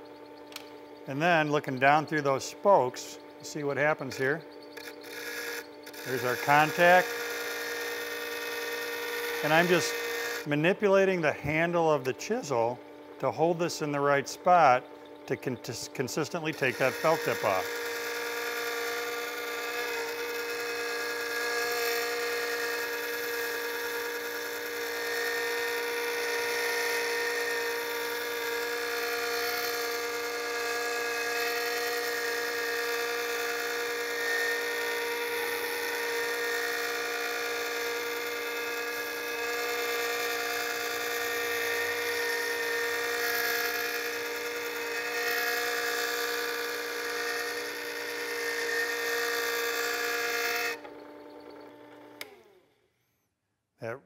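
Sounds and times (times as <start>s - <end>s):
disc sharpener whining: 0.0s - 53.3s.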